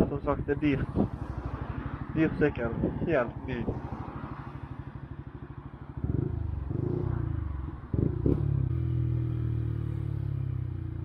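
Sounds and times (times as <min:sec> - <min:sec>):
motorcycle engine: 0:00.0 - 0:11.0.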